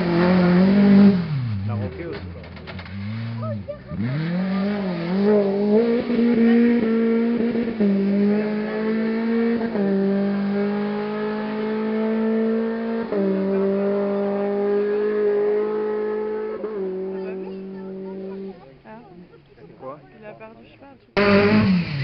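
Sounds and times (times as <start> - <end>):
rally car engine accelerating: 0.0 - 19.4, 21.2 - 22.0.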